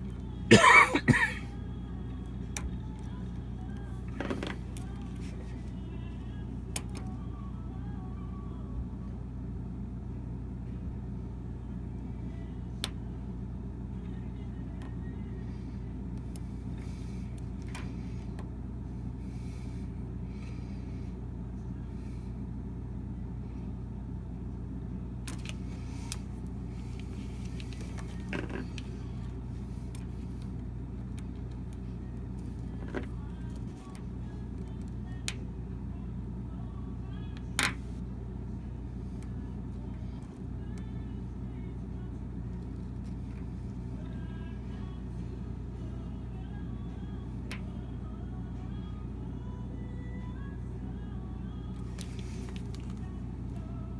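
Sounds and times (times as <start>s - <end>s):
water heater humming: 0.0s - 53.9s.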